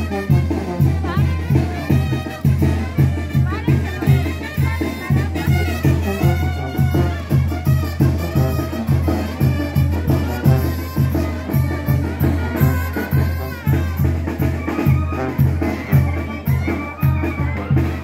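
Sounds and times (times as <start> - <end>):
brass band playing dance tune: 0.0 - 18.0
drum beat: 0.0 - 18.0.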